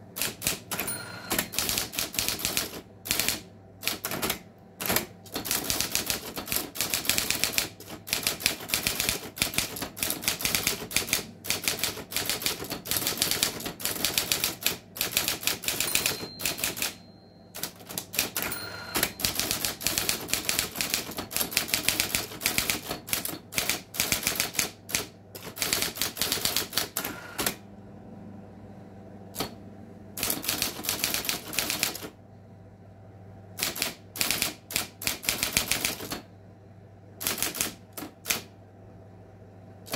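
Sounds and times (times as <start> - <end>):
electric typewriter keystrokes: 0.1 - 27.6, 29.3 - 29.6, 30.2 - 32.2, 33.6 - 36.3, 37.2 - 38.6
typewriter motor humming: 0.2 - 17.0, 17.6 - 27.6, 30.2 - 32.2, 33.6 - 36.2, 37.2 - 38.5.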